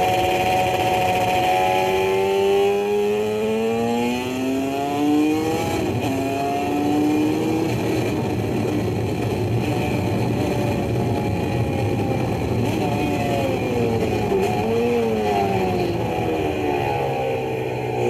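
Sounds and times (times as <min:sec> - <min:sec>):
two-stroke motorcycle engine accelerating: 0:00.0 - 0:18.0.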